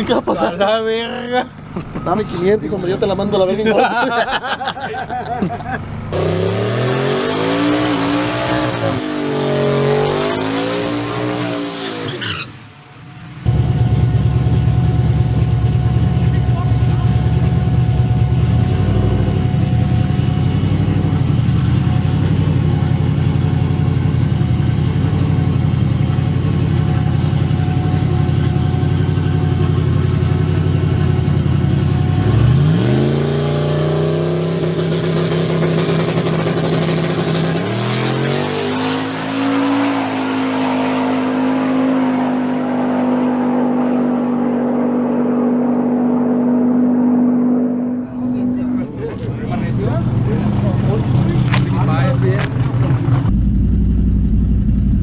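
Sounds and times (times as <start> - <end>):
turbocharged truck engine revving: 0.0 - 55.0.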